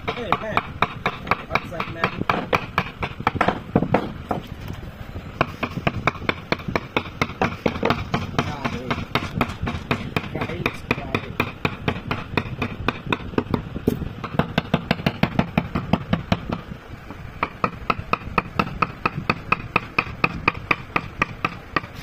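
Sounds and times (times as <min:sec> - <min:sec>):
mallet tapping carving gouge: 0:00.0 - 0:04.5, 0:05.4 - 0:16.7, 0:17.4 - 0:22.0.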